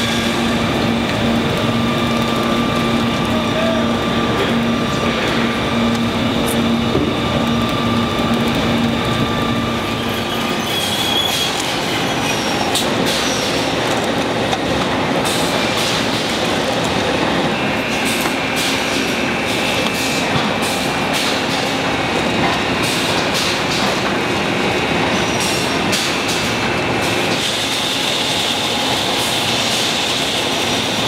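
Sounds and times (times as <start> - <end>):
industrial machinery din: 0.0 - 31.0.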